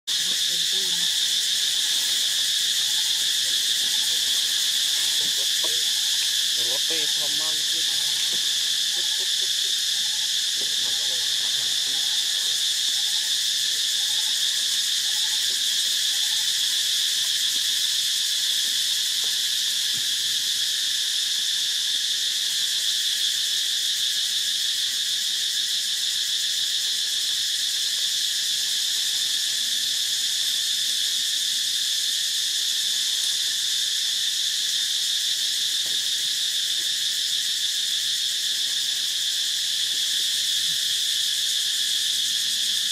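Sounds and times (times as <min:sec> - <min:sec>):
insect chorus drone: 0:00.1 - 0:42.9.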